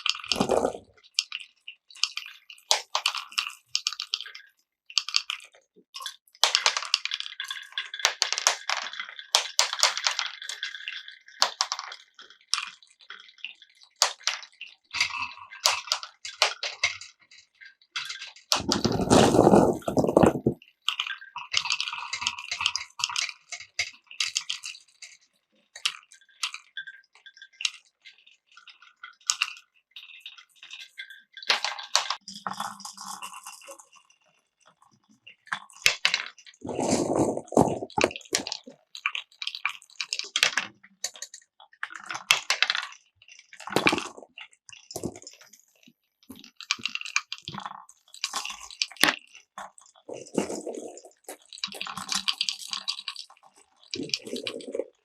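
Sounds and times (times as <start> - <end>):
marbles rolling and clacking on wood: 0.0 - 13.2, 13.9 - 34.2, 35.5 - 55.0.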